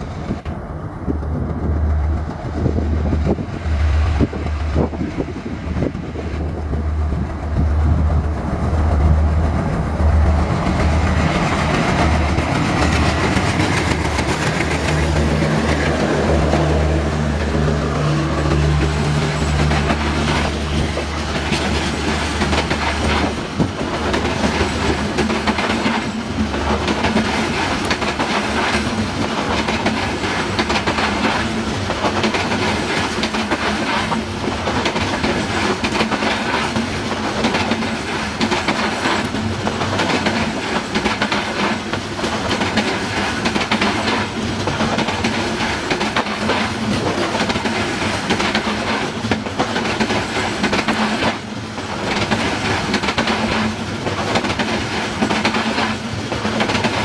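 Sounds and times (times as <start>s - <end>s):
train wheels clattering over rail joints: 0.3s - 16.8s, 17.4s - 57.0s.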